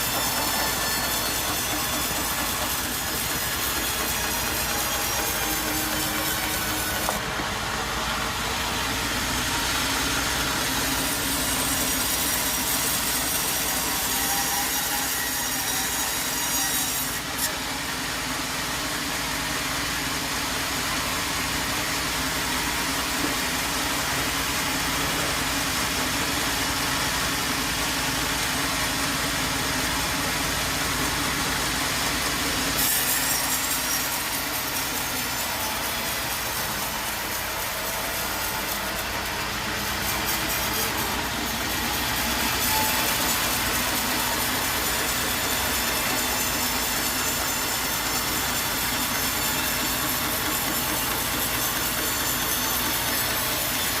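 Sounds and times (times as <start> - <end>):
saw cutting through wood: 0.0 - 54.0.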